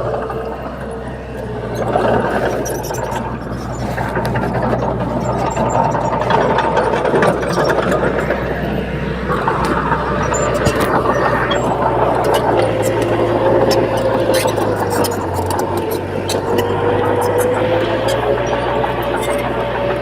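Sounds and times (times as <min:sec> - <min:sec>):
bulldozer diesel engine running: 0:00.0 - 0:20.0
machine clanks and rattles: 0:00.0 - 0:20.0.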